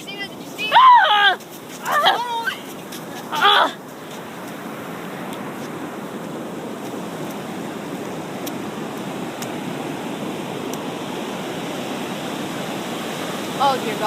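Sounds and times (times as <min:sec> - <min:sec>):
surf washing over rocky shore: 0:00.0 - 0:14.0.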